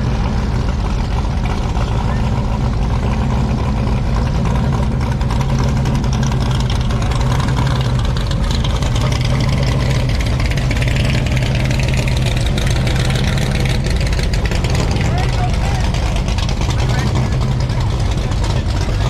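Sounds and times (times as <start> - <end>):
car engine idling loudly: 0.0 - 19.0.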